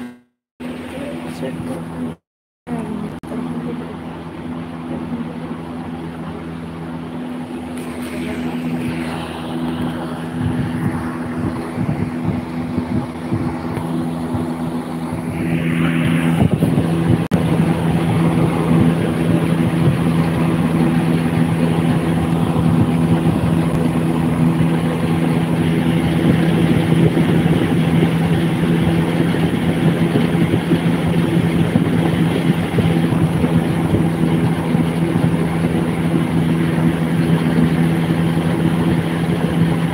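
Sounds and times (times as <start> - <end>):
air cooler fan humming: 0.0 - 39.9.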